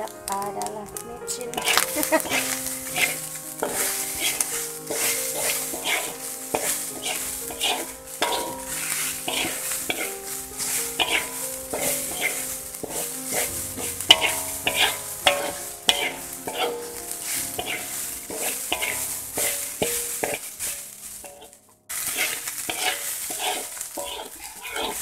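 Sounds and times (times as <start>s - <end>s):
food sizzling: 0.0s - 25.0s
spatula scraping a wok: 1.5s - 25.0s.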